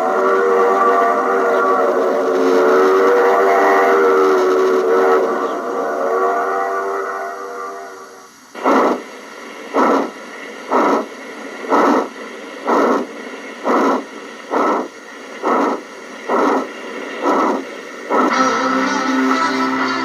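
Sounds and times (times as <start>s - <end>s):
model steam locomotive chuffing: 0.0s - 20.0s
steady hiss: 0.0s - 20.0s.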